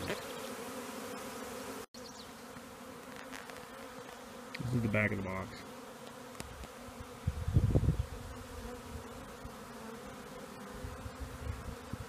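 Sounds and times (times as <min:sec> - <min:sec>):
bees humming: 0:00.0 - 0:12.0.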